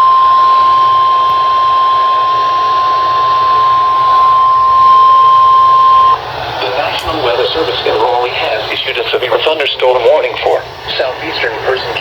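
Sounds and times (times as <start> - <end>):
steady alarm tone: 0.0 - 10.8
radio hiss: 0.3 - 12.0.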